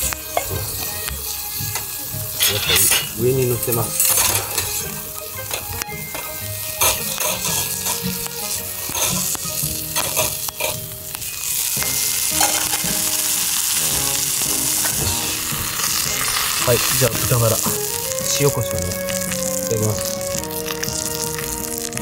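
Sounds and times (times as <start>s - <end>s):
utensils scraping a pan: 0.0s - 21.4s
meat sizzling in frying pan: 0.0s - 22.0s.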